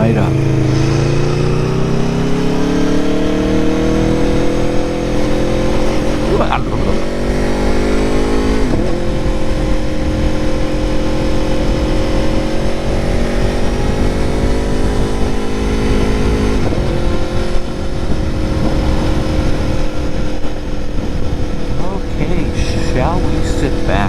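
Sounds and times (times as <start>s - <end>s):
motorcycle engine running: 0.0s - 24.0s
wind rumble on microphone: 3.8s - 24.0s.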